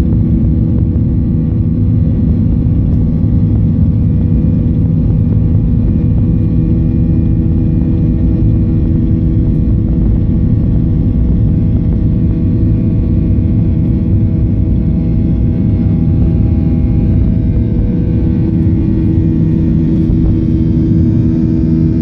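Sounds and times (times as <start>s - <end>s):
jet engine roar in cabin: 0.0s - 22.0s.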